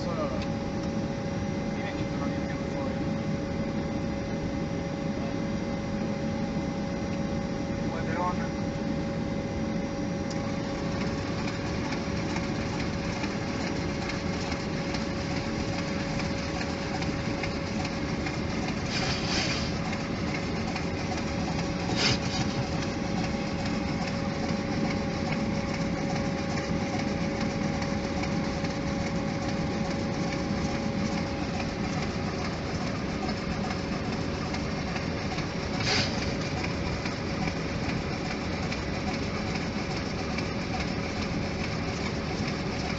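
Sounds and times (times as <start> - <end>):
engine hum with steady tone: 0.0 - 42.9.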